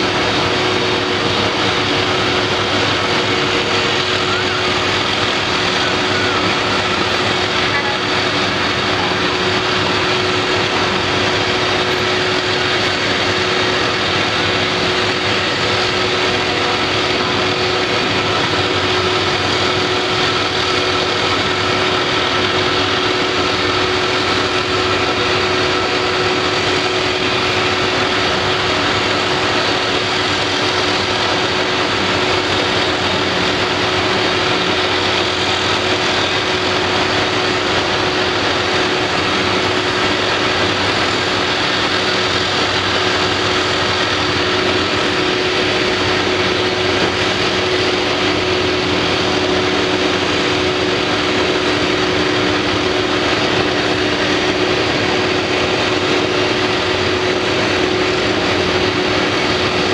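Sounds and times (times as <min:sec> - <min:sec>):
broad rumble and hiss: 0:00.0 - 0:59.9
constant hum: 0:00.0 - 0:59.9
construction machinery engine running: 0:00.0 - 0:59.9.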